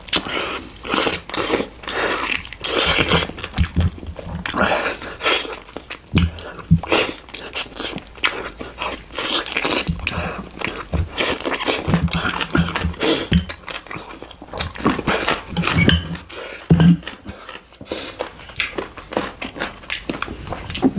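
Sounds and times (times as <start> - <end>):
wet chewing and mouth smacks: 0.0 - 20.9.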